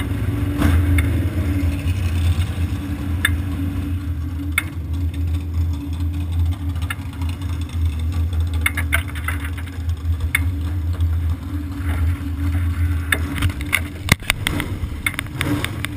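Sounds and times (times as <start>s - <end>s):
race car engine idling: 0.0s - 15.9s.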